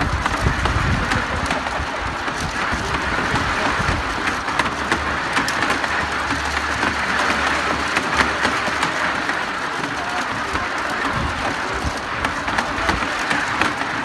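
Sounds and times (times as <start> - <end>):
ice shaver clattering and scraping: 0.0 - 14.0.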